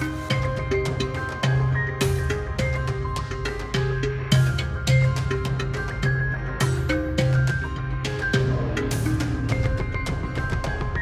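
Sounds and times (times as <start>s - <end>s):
instrumental music: 0.0s - 11.0s.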